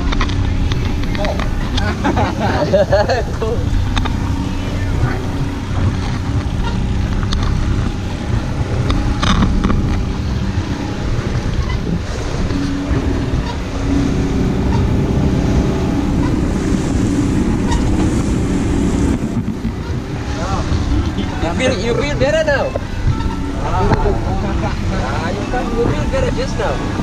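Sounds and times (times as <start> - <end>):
outboard motors running: 0.0 - 27.0
water rushing past hull: 0.0 - 27.0
wind on microphone: 0.0 - 27.0.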